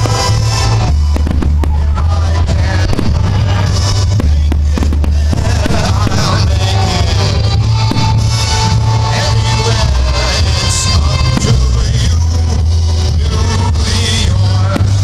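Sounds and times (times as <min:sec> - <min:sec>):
fireworks bangs: 0:00.0 - 0:15.0
loud music with heavy bass: 0:00.0 - 0:15.0.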